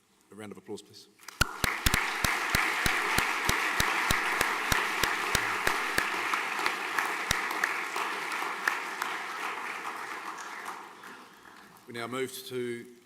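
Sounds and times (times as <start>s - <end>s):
sharp close claps: 1.2s - 11.7s
audience applause: 1.3s - 12.0s.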